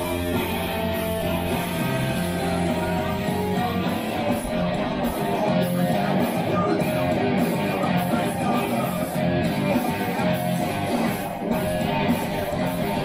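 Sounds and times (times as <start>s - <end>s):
electric guitar rock playing: 0.0s - 13.0s.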